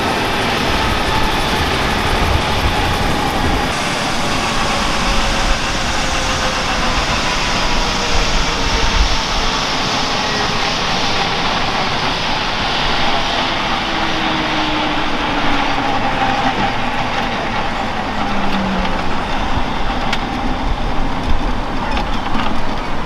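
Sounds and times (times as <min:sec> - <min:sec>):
helicopter turbine hiss and whine: 0:00.0 - 0:23.0.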